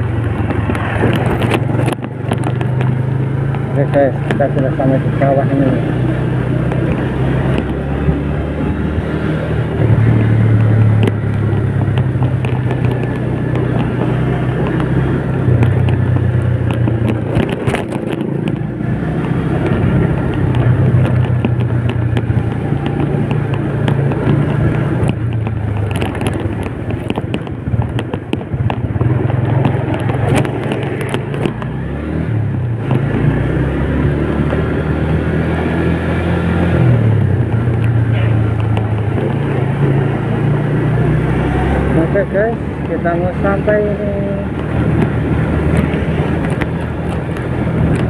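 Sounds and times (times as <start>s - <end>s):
crackling clicks: 0.0s - 4.8s, 6.1s - 8.2s, 9.6s - 33.2s, 37.0s - 41.9s, 42.7s - 48.0s
motorcycle engine running: 0.0s - 48.0s.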